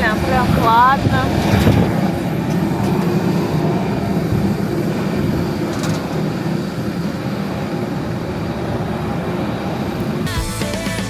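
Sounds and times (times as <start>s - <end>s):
faint steady hums: 0.0s - 10.4s.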